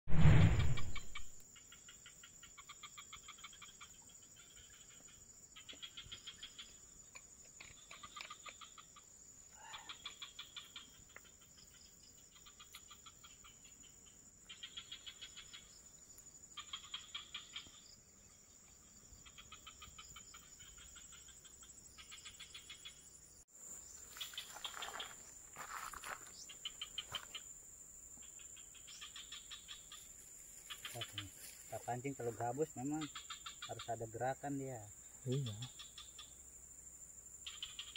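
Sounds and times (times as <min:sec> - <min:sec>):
rapid trilling insect chirps: 0:00.2 - 0:37.9
high-pitched insect drone: 0:00.7 - 0:37.9.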